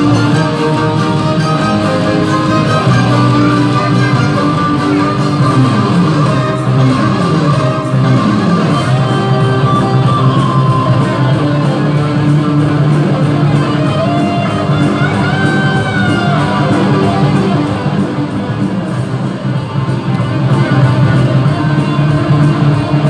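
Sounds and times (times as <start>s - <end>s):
instrumental music: 0.0s - 23.0s.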